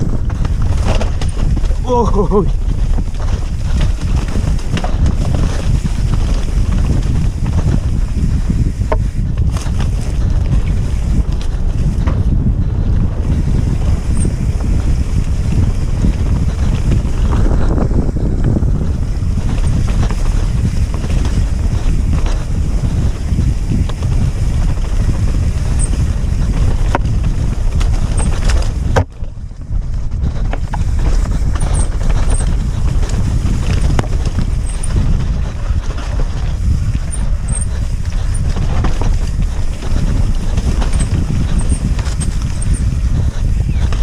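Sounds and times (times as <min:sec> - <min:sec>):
bike knocking and rattling: 0:00.0 - 0:44.0
wind buffeting microphone: 0:00.0 - 0:44.0.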